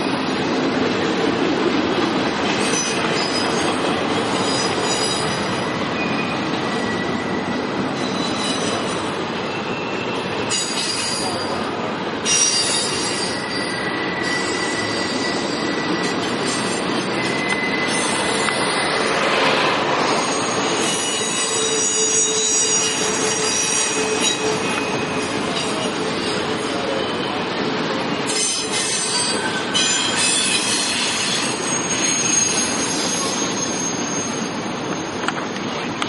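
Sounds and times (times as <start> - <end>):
freight train rumbling: 0.0 - 36.0
high-pitched wheel squeal: 2.6 - 27.4, 28.3 - 34.6.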